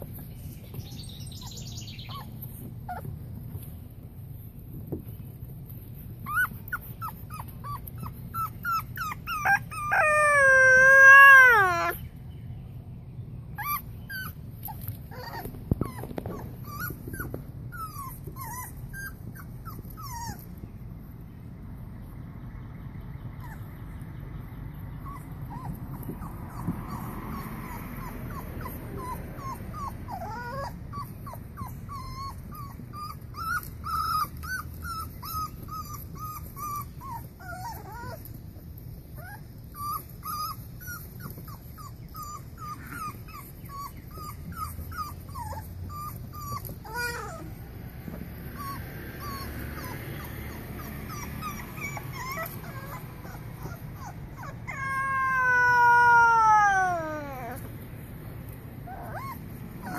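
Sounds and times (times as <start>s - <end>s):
puppies yipping and whining: 0.0s - 12.2s, 13.4s - 21.6s, 23.1s - 59.9s.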